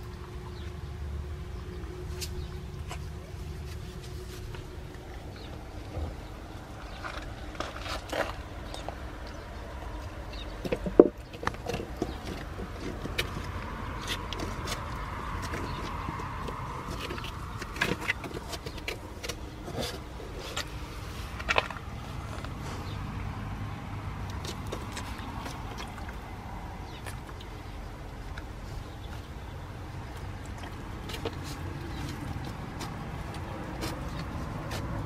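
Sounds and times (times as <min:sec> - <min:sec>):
low background rumble: 0:00.0 - 0:35.0.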